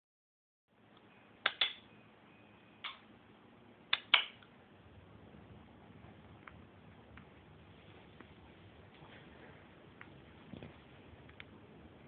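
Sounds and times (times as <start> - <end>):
faint room hiss: 0.7 - 12.0.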